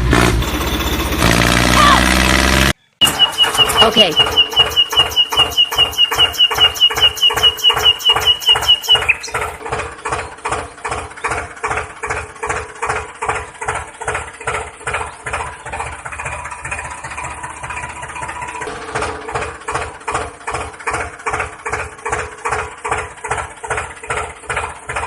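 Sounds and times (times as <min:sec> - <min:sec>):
tractor engine chugging: 0:00.0 - 0:02.2, 0:02.9 - 0:25.0.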